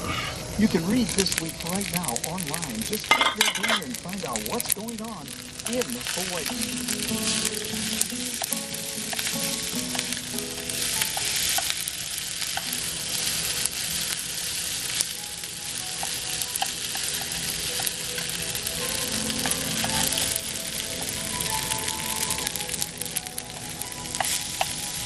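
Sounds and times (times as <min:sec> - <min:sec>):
food sizzling in a pan: 0:00.0 - 0:25.0
soft music: 0:00.0 - 0:25.0.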